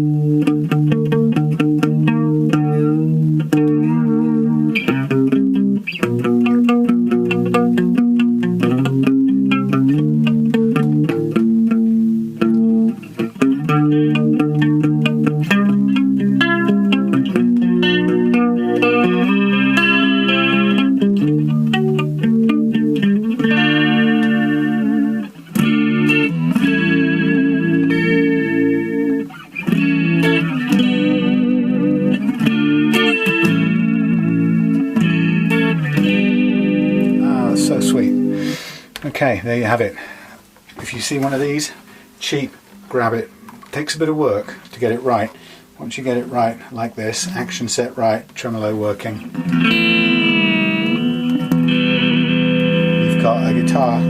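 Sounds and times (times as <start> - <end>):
electric guitar chords and riffs: 0.0 - 54.0.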